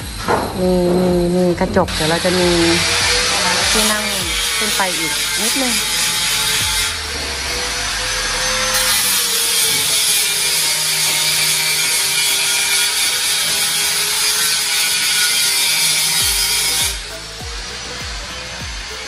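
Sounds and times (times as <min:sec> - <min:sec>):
power tool cutting: 0:00.0 - 0:19.0.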